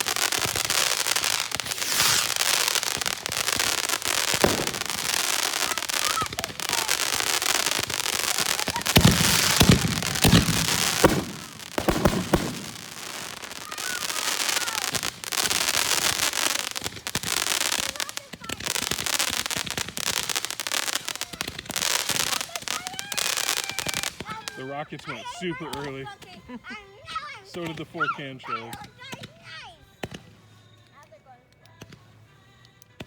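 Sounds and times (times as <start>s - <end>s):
fireworks bangs: 0.0s - 26.5s
fireworks crackling: 0.0s - 33.0s.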